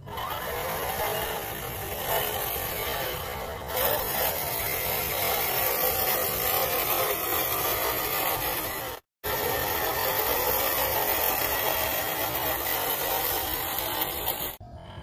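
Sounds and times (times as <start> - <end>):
toy car electric motor buzzing: 0.0 - 14.8.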